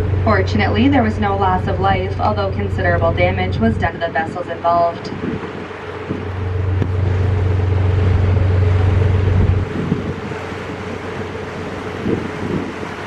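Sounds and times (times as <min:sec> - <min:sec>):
boat engine running: 0:00.0 - 0:13.0
wind rumbling on microphone: 0:00.0 - 0:13.0.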